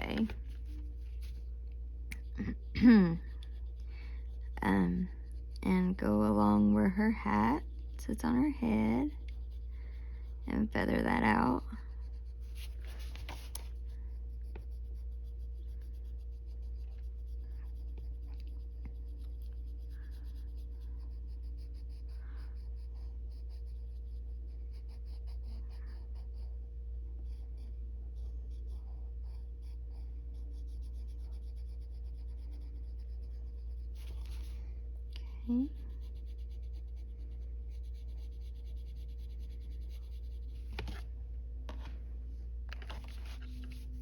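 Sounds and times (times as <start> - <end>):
coloured pencil scratching on paper: 0.0 - 1.6, 2.2 - 34.6, 35.5 - 41.1, 42.7 - 44.0
steady low hum: 0.0 - 44.0.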